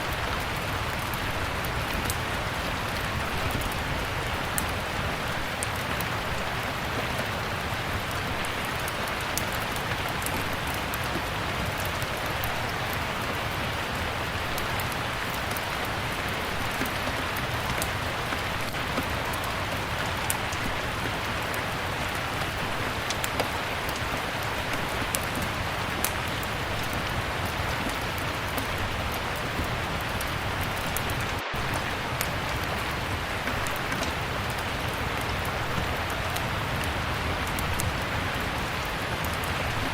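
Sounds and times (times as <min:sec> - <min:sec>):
log fire crackling: 0:00.0 - 0:39.9
steady rain: 0:00.0 - 0:39.9.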